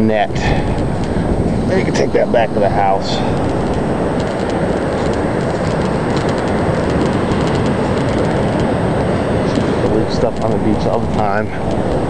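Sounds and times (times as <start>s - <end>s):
ocean surf rushing: 0.0s - 12.0s
wind on microphone: 0.0s - 12.0s.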